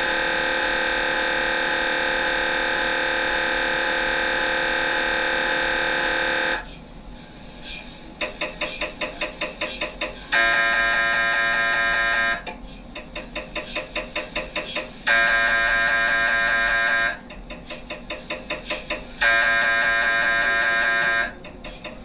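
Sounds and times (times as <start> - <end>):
mri scanner buzzing: 0.0 - 22.0
mri scanner rhythmic knocking: 0.0 - 22.0.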